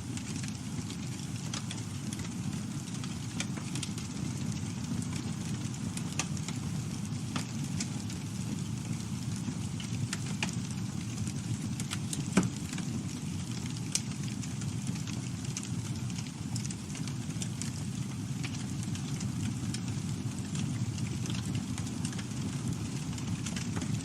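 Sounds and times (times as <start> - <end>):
campfire flames rumbling: 0.0 - 24.0
wood crackling and popping: 0.0 - 24.0.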